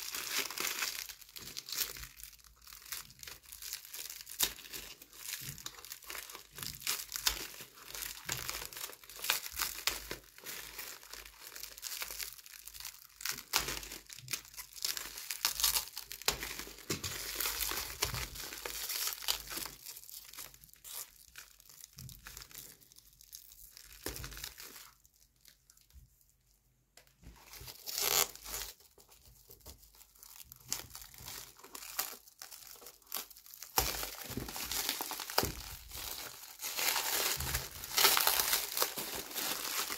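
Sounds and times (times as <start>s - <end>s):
plastic wrapping crinkling and tearing: 0.0s - 26.3s, 27.0s - 39.9s.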